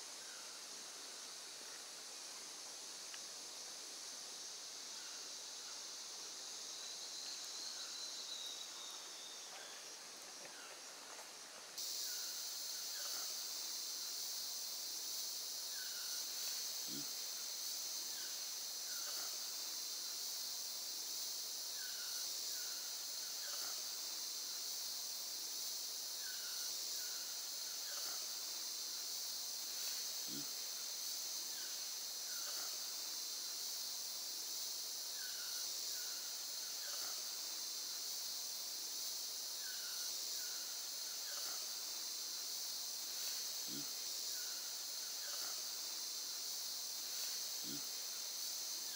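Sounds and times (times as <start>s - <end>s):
insects high-pitched chorus: 0.0s - 48.9s.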